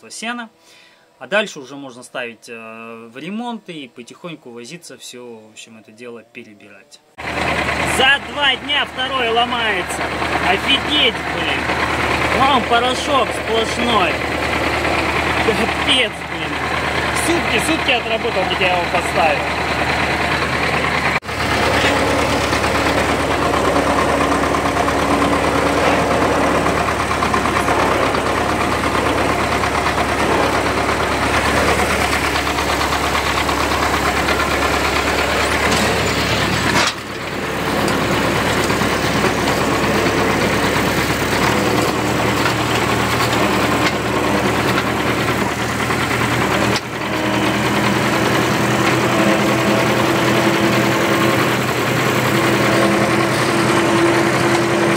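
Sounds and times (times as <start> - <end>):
tractor diesel engine running: 7.2 - 54.9.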